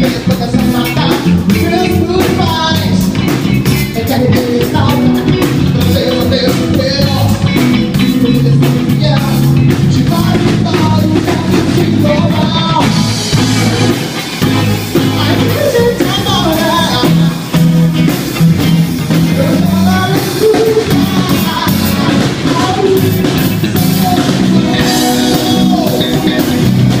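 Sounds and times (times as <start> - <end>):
lead singer: 0.0 - 27.0
rock band playing: 0.0 - 27.0.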